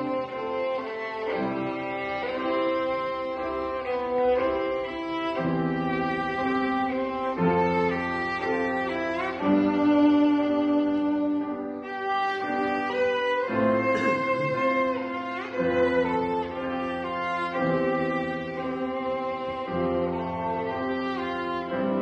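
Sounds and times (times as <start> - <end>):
bowed violin melody: 0.0 - 22.0.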